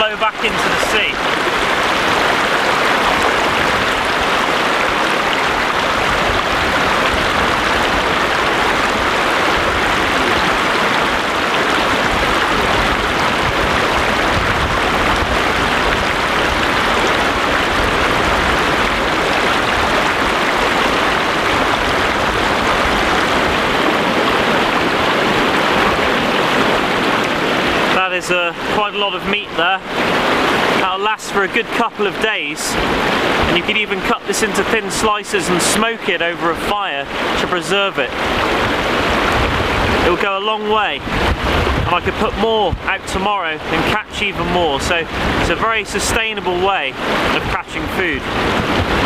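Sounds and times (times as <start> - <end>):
water rushing over rocks: 0.0 - 49.0.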